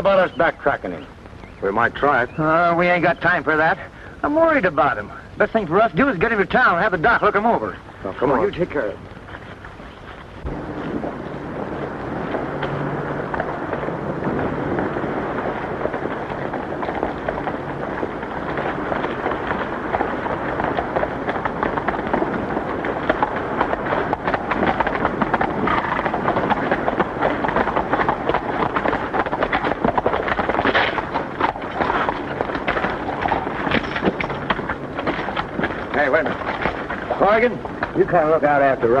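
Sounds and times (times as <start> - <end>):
horse hooves galloping: 0.0 - 39.0
old film soundtrack hiss: 0.0 - 39.0.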